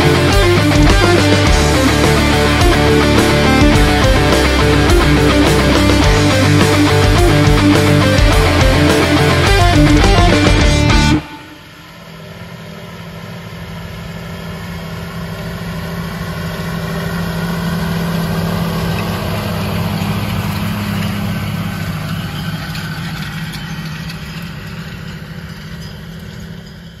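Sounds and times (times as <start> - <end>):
tractor diesel engine passing: 0.0 - 27.0.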